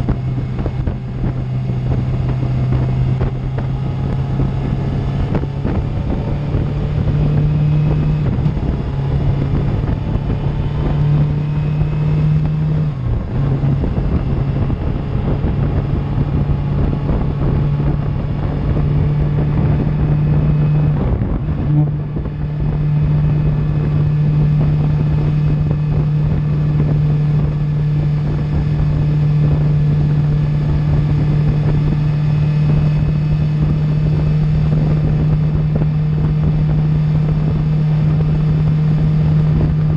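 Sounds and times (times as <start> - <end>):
motorcycle engine cruising: 0.0 - 39.9
wind buffeting microphone: 0.0 - 39.9.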